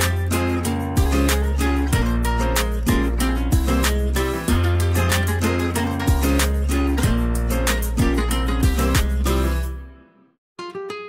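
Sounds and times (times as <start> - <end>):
steady bass: 0.0 - 9.8
plucked guitar notes: 0.0 - 11.0.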